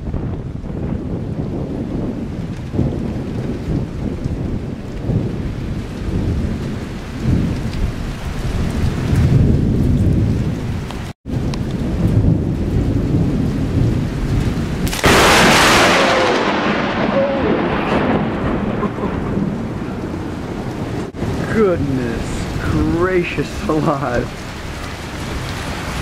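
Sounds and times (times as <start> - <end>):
loud crack of thunder: 0.0 - 10.6, 11.3 - 24.6
low rolling thunder: 0.0 - 26.0
rain falling: 0.0 - 26.0.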